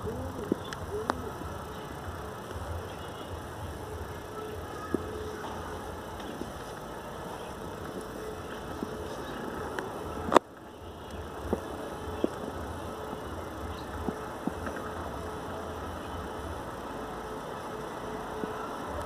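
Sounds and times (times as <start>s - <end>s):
faint hum: 0.0s - 19.0s
outdoor rumble and hiss: 0.0s - 19.0s.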